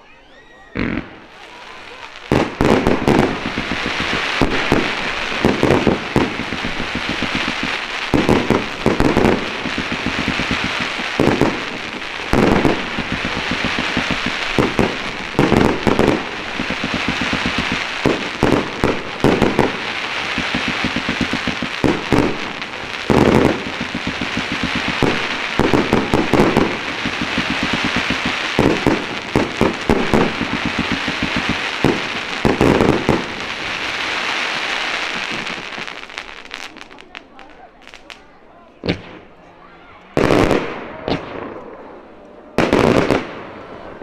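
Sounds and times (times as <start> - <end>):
continuous crackling hiss: 0.0 - 42.6.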